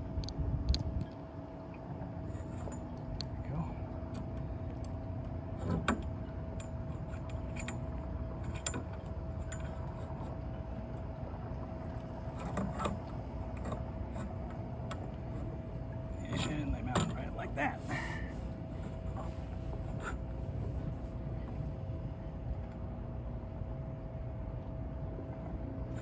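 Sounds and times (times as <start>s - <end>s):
faint constant tone: 0.0s - 26.0s
steady low hum: 0.0s - 26.0s.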